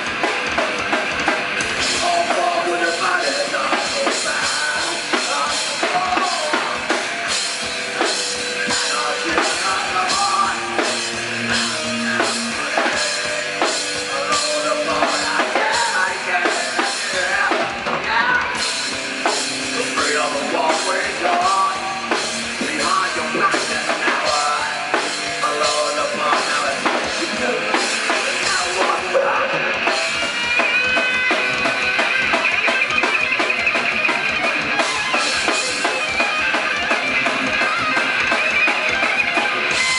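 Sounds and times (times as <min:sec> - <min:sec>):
drum kit beat: 0:00.0 - 0:39.9
live rock band playing: 0:00.0 - 0:39.9.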